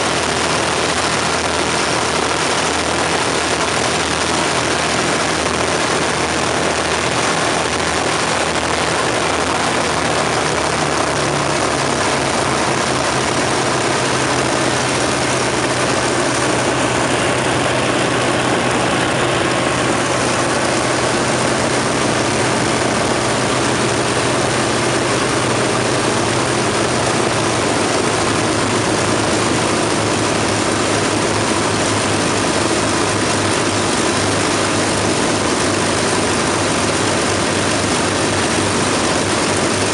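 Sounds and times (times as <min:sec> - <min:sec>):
aircraft engines and propellers running: 0:00.0 - 0:39.9.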